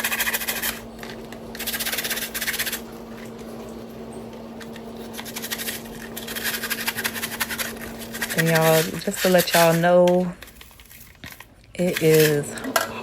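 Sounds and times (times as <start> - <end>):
brush scrubbing a filter: 0.0 - 12.7.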